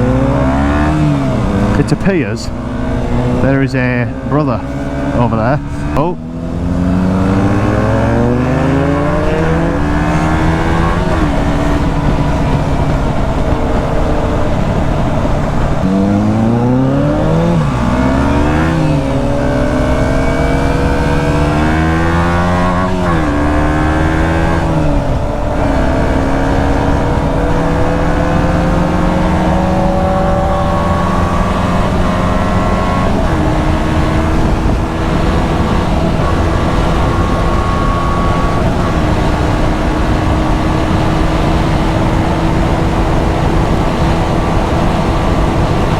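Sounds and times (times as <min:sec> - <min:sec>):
motorcycle engine shifting gears: 0:00.0 - 0:45.9.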